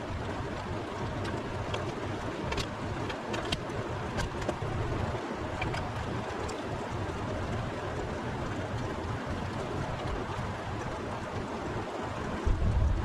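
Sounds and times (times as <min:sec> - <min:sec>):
rushing noise with low rumble: 0:00.0 - 0:13.0.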